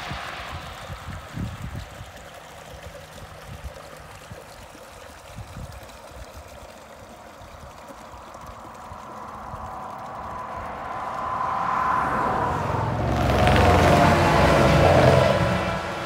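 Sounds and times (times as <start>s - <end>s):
water running from a pipe: 0.0s - 16.0s.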